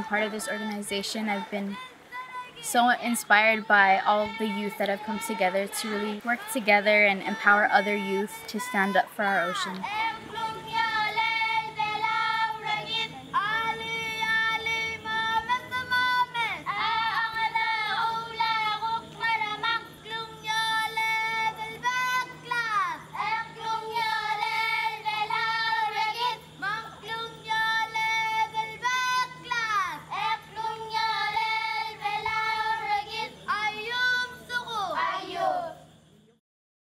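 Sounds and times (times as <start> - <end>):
low steady hum: 0.0 - 36.3.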